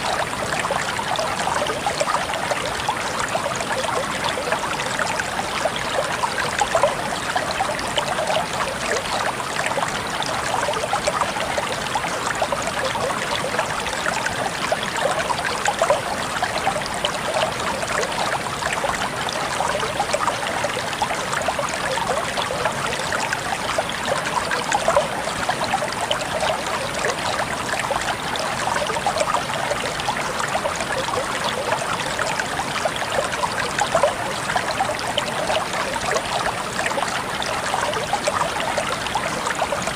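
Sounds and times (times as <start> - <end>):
calm water flowing: 0.0 - 39.9.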